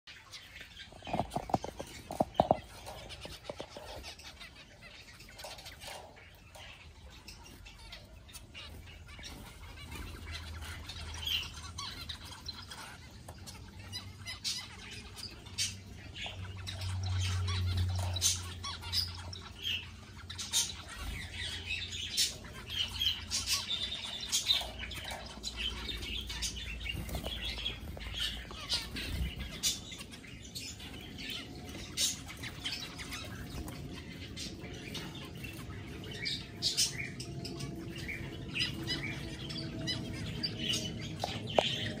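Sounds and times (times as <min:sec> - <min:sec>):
finches chirping: 0:00.1 - 0:42.0.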